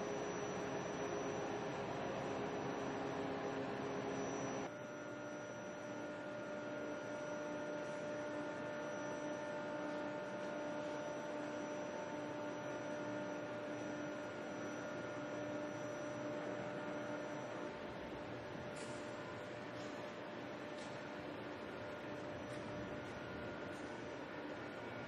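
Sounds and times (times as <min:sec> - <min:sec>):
hangar room hum with tones: 0:00.0 - 0:25.0.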